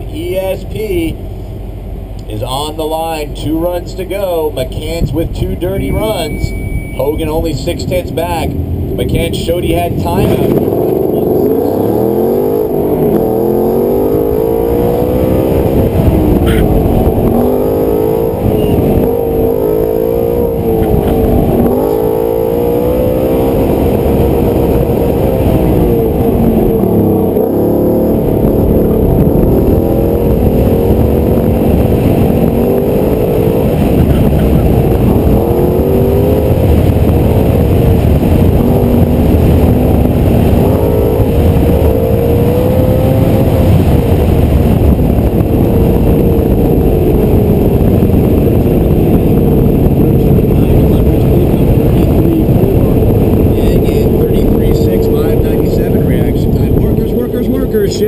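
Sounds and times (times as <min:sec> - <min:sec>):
car engine accelerating and slowing: 0:00.0 - 0:58.0.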